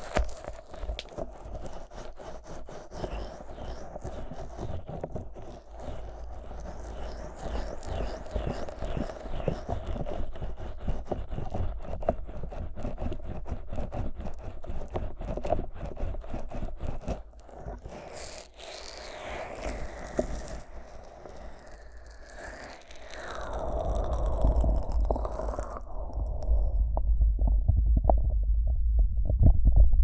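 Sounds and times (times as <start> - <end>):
fingers rubbing sticky microphone: 0.0 - 26.8.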